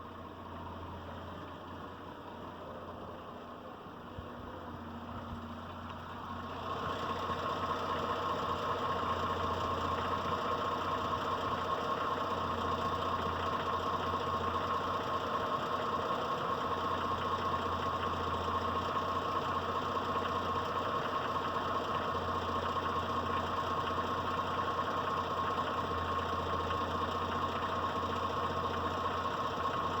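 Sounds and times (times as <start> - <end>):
petrol engine idling with knock: 0.0 - 30.0.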